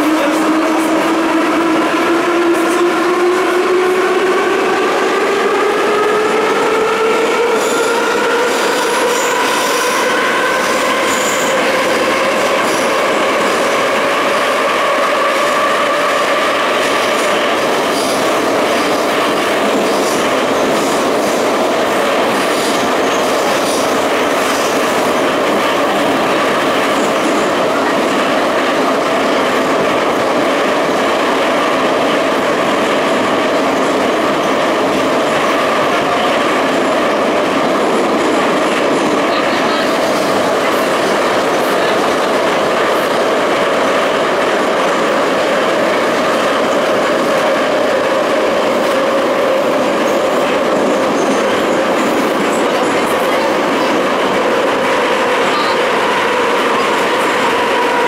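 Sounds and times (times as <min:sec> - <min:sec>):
train wheels rumbling on rail: 0:00.0 - 0:58.0
train whine: 0:00.0 - 0:58.0.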